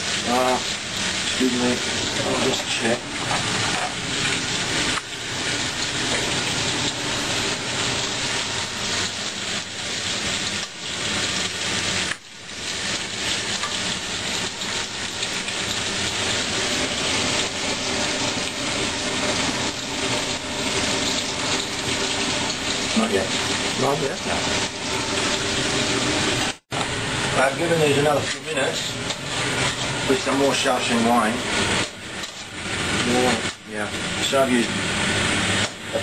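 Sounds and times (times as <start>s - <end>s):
vegetables sizzling in a wok: 0.0s - 36.0s.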